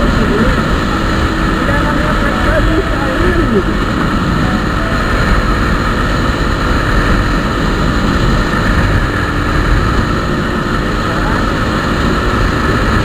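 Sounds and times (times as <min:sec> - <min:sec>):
motorcycle engine: 0:00.0 - 0:13.0
wind rush: 0:00.0 - 0:13.0.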